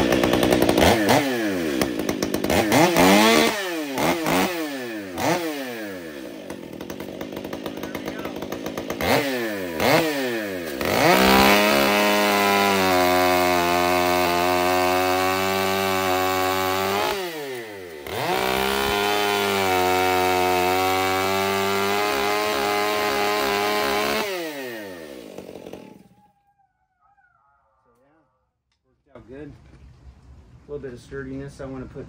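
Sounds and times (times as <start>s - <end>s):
chainsaw cutting log: 0.0s - 26.1s.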